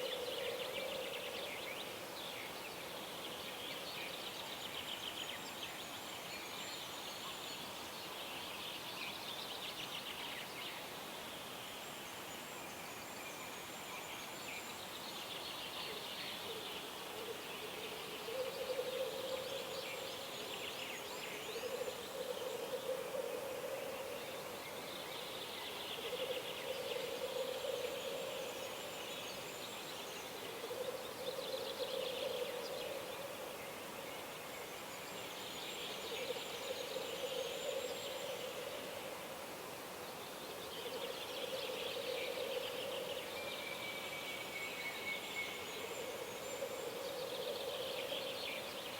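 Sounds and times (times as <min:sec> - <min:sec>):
steady background hiss: 0:00.0 - 0:48.9.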